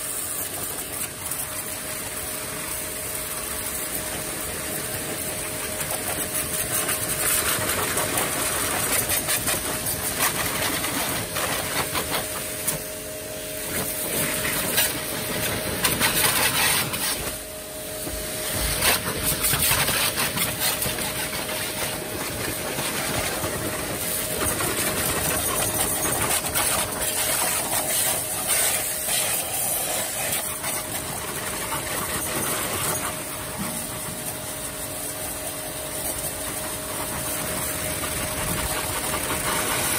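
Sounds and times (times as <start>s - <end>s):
high-pressure water jet hissing: 0.0s - 39.9s
pressure washer pump humming: 0.0s - 39.9s.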